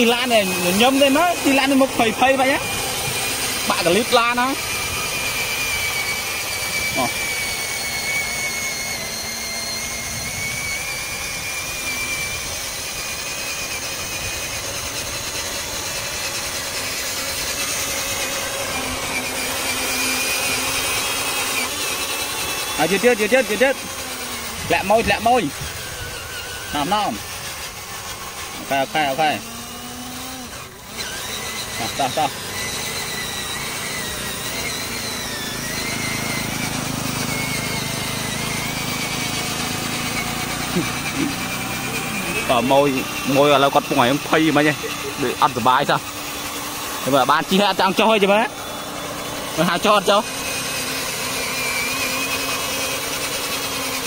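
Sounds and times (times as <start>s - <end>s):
lower hum: 0.0s - 43.3s
electric motor whining: 0.0s - 54.0s.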